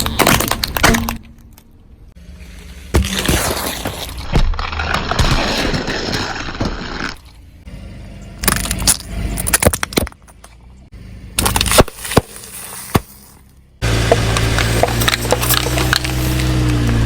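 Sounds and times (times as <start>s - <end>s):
objects crunching under car tyre: 0.0s - 7.6s, 8.4s - 17.0s.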